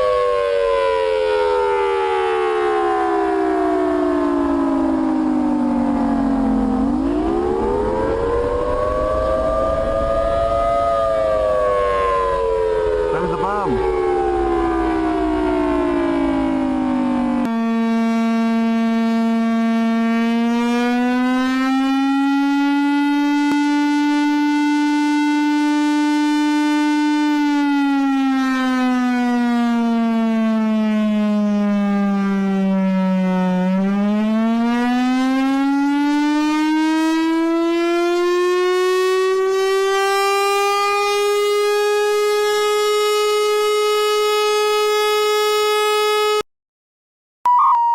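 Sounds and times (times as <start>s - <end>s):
emergency siren sliding in pitch: 0.0s - 46.4s, 47.5s - 47.9s.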